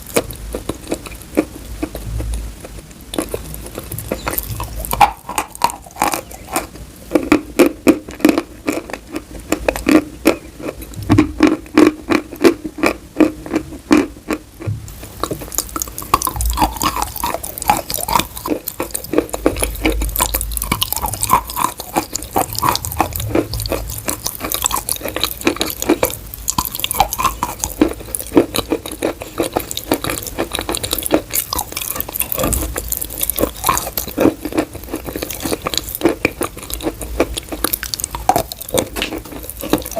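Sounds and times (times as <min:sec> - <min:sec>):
chewing chalk: 0:00.0 - 0:14.4, 0:15.0 - 0:39.9.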